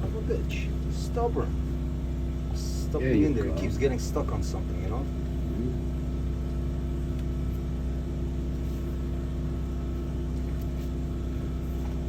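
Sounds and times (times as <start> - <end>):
water jetter engine and pump droning: 0.0 - 12.0.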